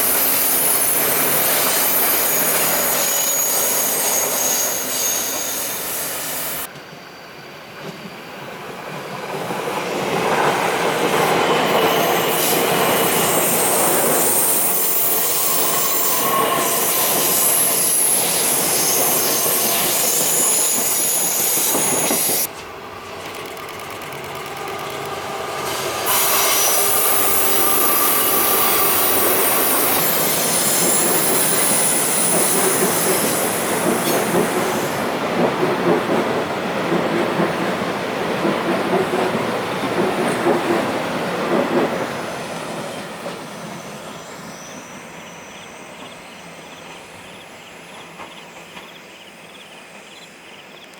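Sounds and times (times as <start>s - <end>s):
train clickety-clack: 0.0s - 7.0s, 7.7s - 44.6s, 45.8s - 50.9s
wheels squealing on rails: 0.0s - 50.8s
train rumble: 7.7s - 50.8s.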